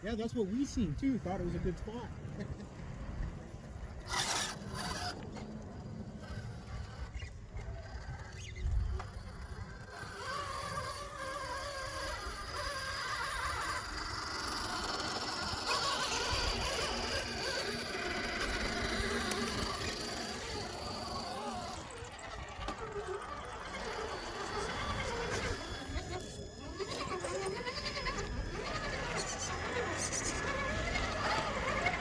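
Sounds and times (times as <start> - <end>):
rc truck motors whining: 0.0 - 32.0.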